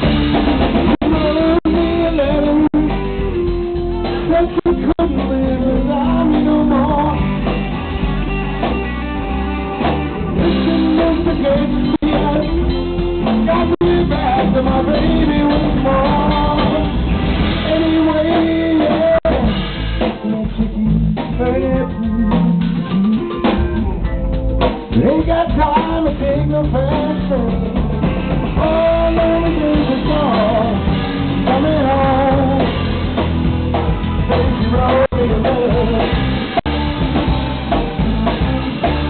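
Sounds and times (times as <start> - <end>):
drum kit: 0.0 - 39.0
electric guitar: 0.0 - 39.0
man singing: 0.8 - 8.8, 9.8 - 24.1, 24.9 - 39.0.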